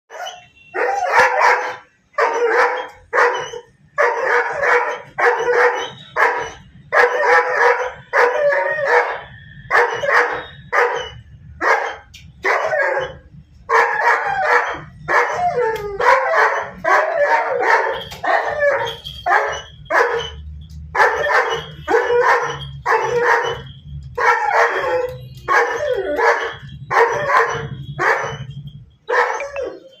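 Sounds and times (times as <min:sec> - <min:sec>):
dog barking aggressively: 0:00.8 - 0:15.4, 0:16.0 - 0:28.5, 0:29.1 - 0:29.5.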